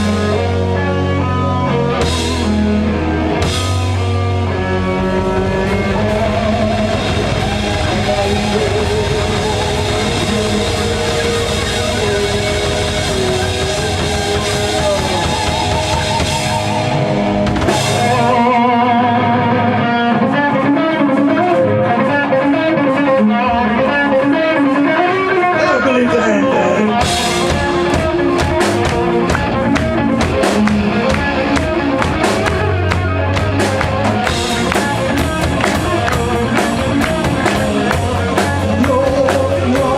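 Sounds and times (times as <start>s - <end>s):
drum kit: 0.0s - 19.1s, 25.4s - 39.9s
bass: 0.0s - 39.9s
electric guitar: 0.0s - 39.9s
keyboards: 0.0s - 39.9s.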